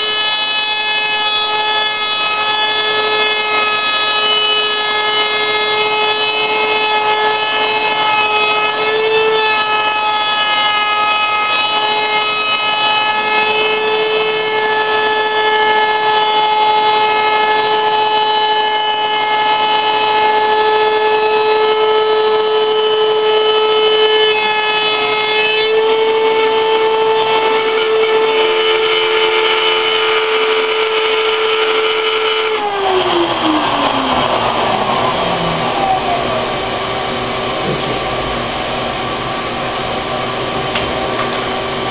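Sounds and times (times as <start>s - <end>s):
electric router whining: 0.0s - 41.9s.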